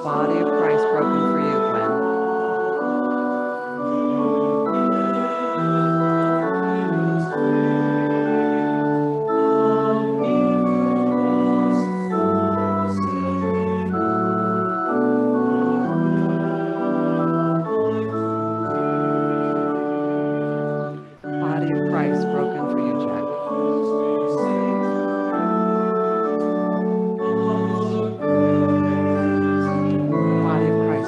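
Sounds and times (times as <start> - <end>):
organ sustained chords: 0.0 - 31.0.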